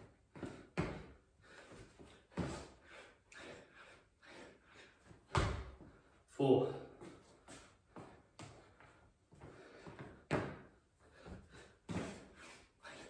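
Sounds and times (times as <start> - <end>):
man breathing hard: 0.3 - 6.2, 7.4 - 13.0.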